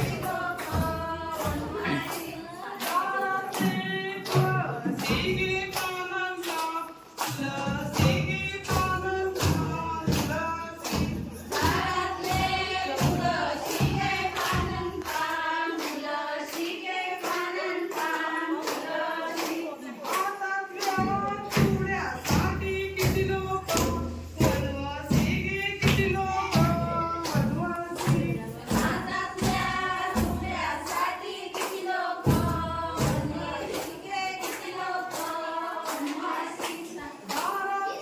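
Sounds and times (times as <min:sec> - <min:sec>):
group singing folk song: 0:00.0 - 0:38.0
rhythmic sharp strikes: 0:00.0 - 0:38.0.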